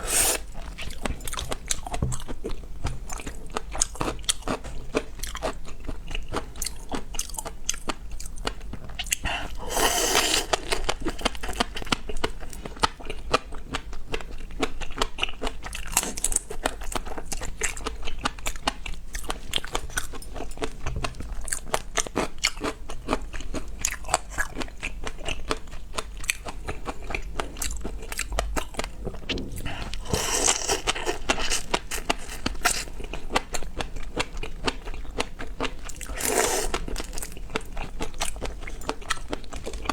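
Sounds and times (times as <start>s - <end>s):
crunching and chewing seafood: 0.0s - 39.9s.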